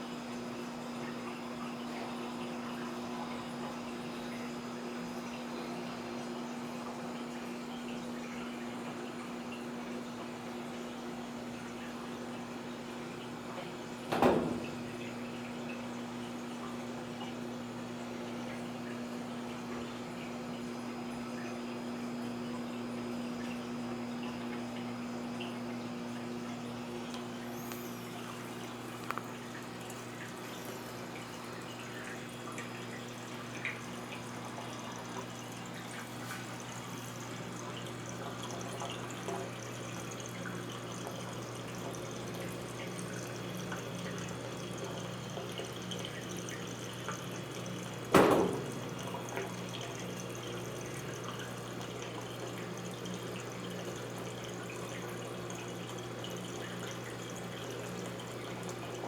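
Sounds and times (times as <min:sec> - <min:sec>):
washing machine humming: 0:00.0 - 0:59.0
water moving inside machine: 0:00.0 - 0:59.0
faint drips: 0:00.3 - 0:59.0.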